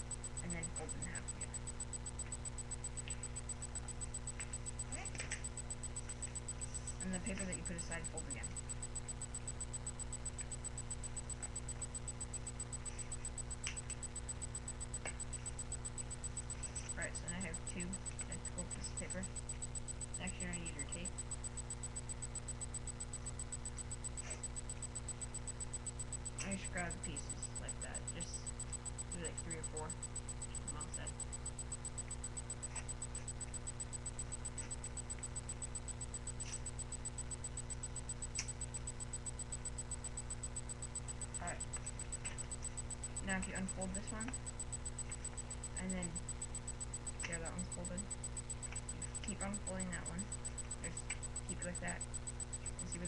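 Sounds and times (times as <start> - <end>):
electrical hum: 0.0 - 53.0
rapid even ticking: 0.0 - 53.0.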